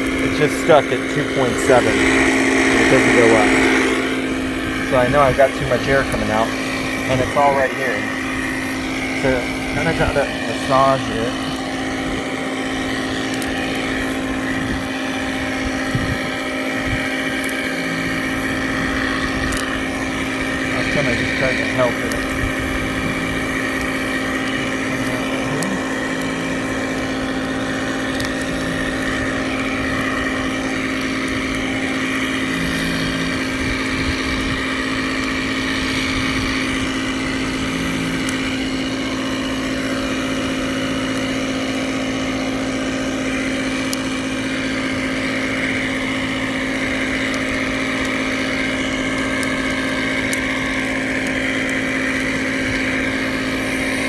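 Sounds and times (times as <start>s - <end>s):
air compressor humming: 0.0s - 54.0s.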